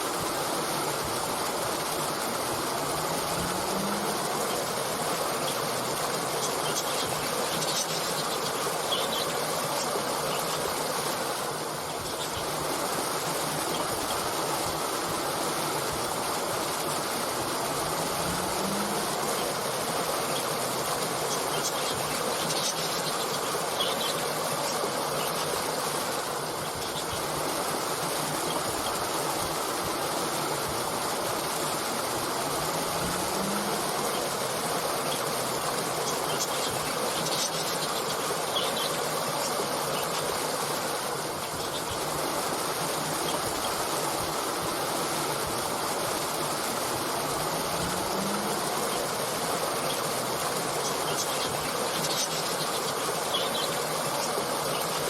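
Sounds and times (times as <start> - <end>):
stream water burbling: 0.0 - 55.0
small birds chirping: 3.0 - 55.0.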